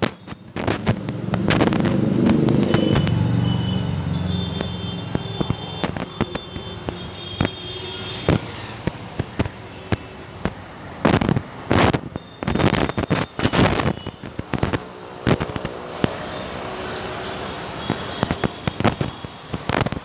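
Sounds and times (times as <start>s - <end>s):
fireworks bangs and cracks: 0.0s - 3.3s, 4.4s - 16.3s, 17.8s - 20.0s.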